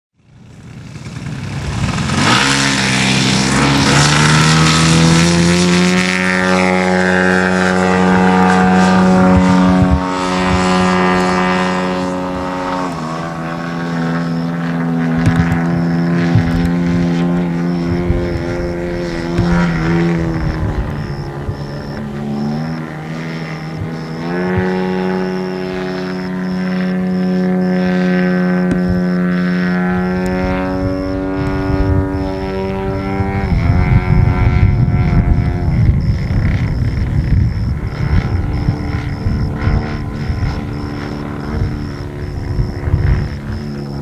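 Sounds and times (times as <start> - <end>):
propeller airplane engine droning: 0.2 - 44.0.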